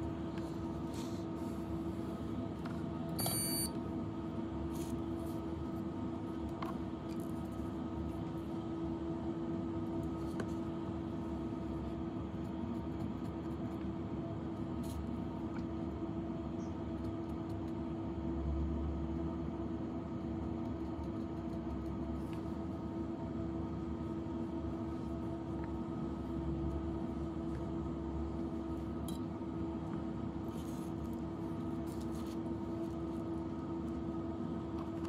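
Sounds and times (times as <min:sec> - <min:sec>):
machine hum with low rumble: 0:00.0 - 0:35.0.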